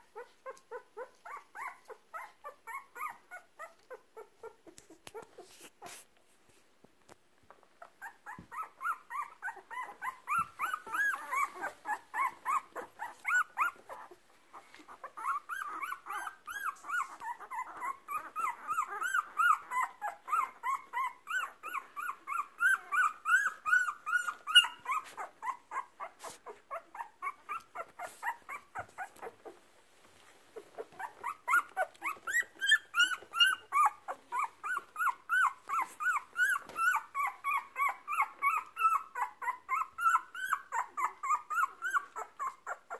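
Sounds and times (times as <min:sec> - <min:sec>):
puppies whimpering and squeaking: 0:00.0 - 0:06.0, 0:07.5 - 0:42.9.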